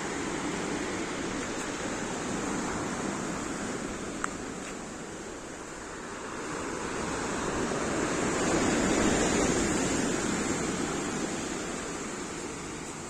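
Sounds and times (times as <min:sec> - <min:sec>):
stormy surf washing on shore: 0:00.0 - 0:13.0.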